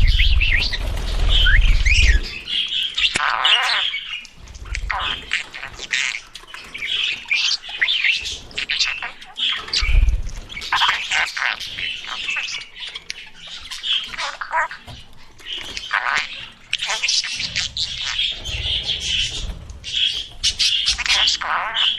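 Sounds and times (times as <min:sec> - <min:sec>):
budgerigars chirping and squawking: 0:00.0 - 0:21.9.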